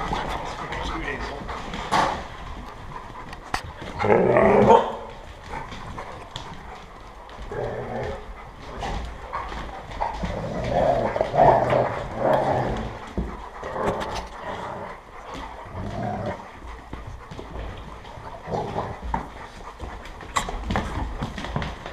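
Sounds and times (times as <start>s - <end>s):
dogs growling and whining: 0.0s - 21.9s
dogs panting: 0.0s - 21.9s
knocks of dogs jostling: 0.0s - 21.9s.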